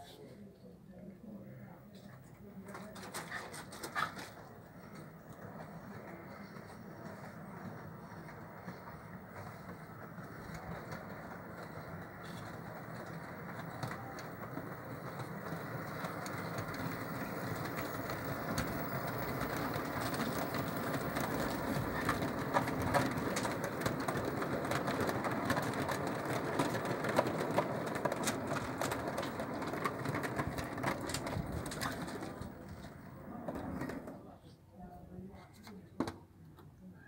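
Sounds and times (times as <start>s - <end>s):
model train wheels on rail: 1.9s - 34.5s
wheels clicking over rail joints: 2.6s - 34.3s.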